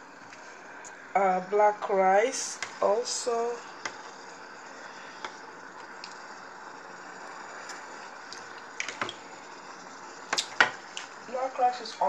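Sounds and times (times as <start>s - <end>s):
food steamer hissing: 0.0s - 12.0s.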